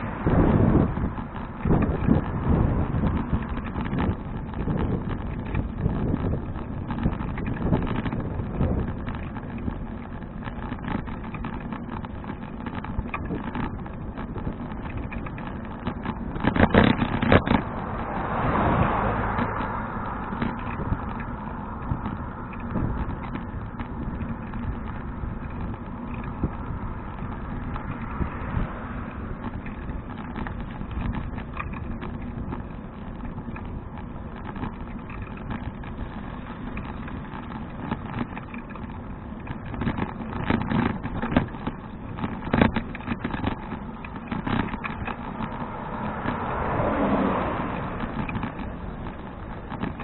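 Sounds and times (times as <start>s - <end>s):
bicycle rattles and knocks: 0.0s - 50.0s
wind and tyre rumble: 0.0s - 50.0s.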